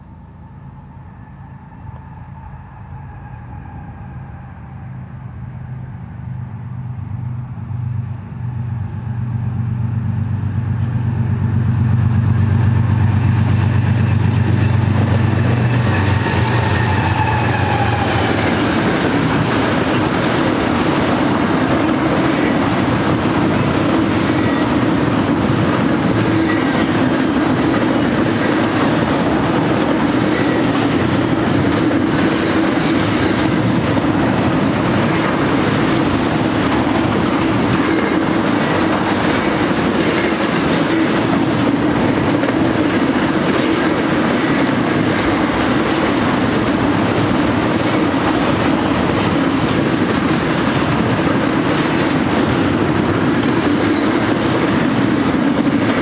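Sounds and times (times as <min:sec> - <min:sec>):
diesel locomotive engine drone: 0:00.0 - 0:56.0
train wheels clickety-clack on rails: 0:09.0 - 0:56.0.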